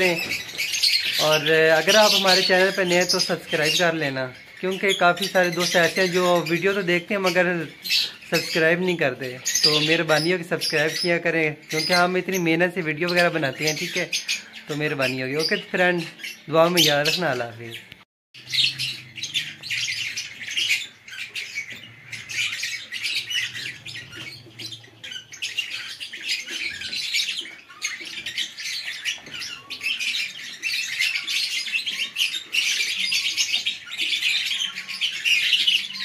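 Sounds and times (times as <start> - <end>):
lovebirds chattering: 0.0 - 36.0.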